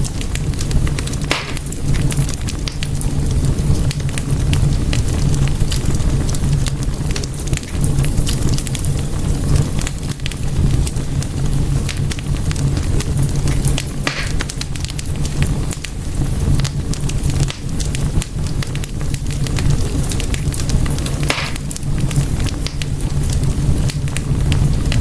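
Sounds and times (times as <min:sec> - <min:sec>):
fire rumbling: 0:00.0 - 0:25.0
wood crackling and popping: 0:00.0 - 0:25.0.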